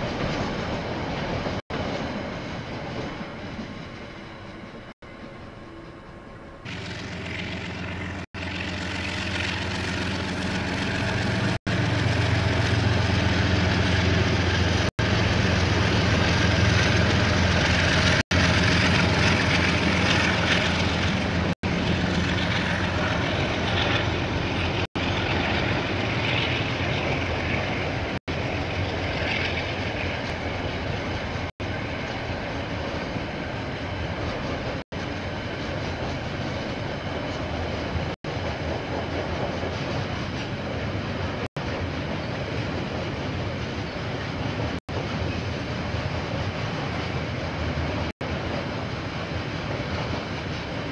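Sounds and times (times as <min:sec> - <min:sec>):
diesel train passing: 0:00.0 - 0:50.9.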